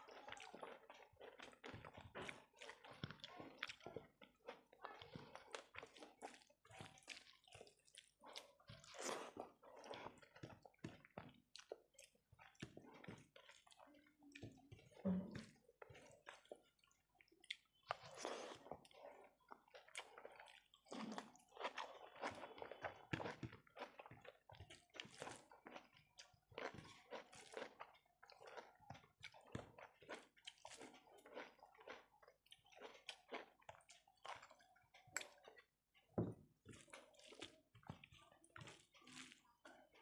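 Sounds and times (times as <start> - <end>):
fingers squishing food: 0.0 - 40.0
person chewing rice: 0.0 - 40.0.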